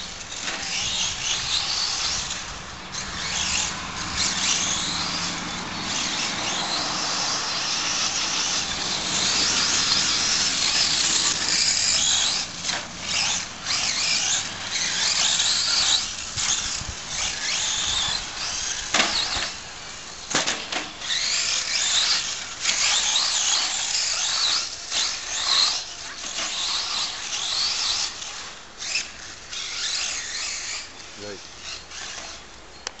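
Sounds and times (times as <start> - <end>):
rc truck motor whine: 0.0 - 33.0.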